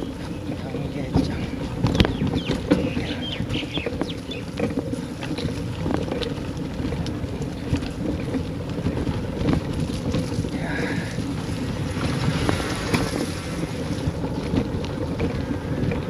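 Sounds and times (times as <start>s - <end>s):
small rattles and clicks: 0.0s - 16.0s
wind rumbling on microphone: 0.0s - 16.0s.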